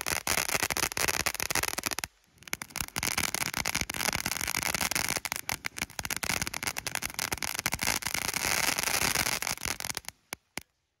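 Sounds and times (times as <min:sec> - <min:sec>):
firework fountain crackling and hissing: 0:00.0 - 0:11.0.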